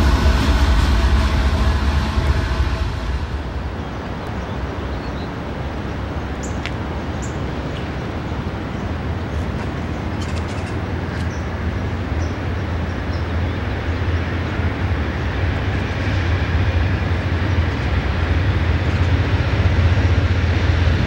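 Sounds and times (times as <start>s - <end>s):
approaching passenger train rumble: 0.0s - 21.0s
diesel locomotives rumbling past: 0.0s - 21.0s.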